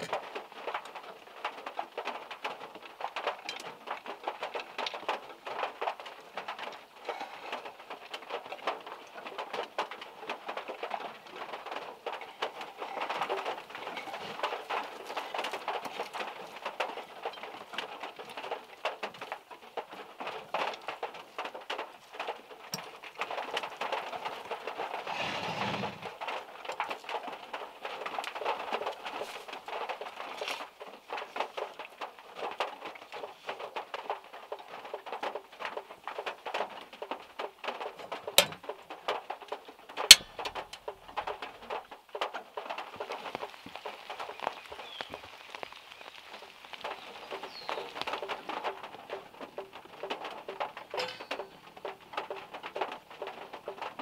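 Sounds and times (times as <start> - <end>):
raindrops pattering on car roof: 0.0 - 54.0.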